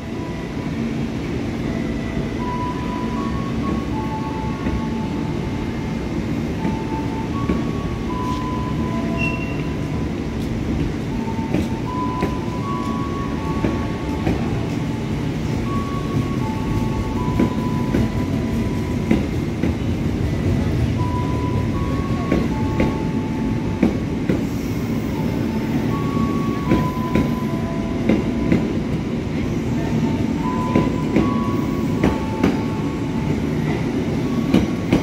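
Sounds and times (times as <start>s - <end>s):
train coaches rumbling: 0.0s - 35.0s.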